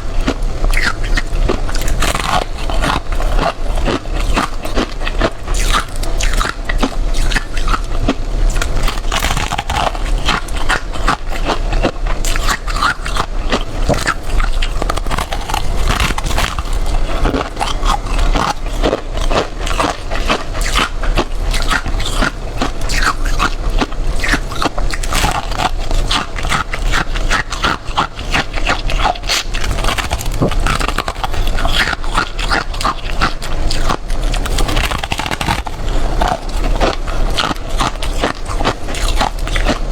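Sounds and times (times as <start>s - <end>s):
person chewing crunchy frost: 0.0s - 39.9s.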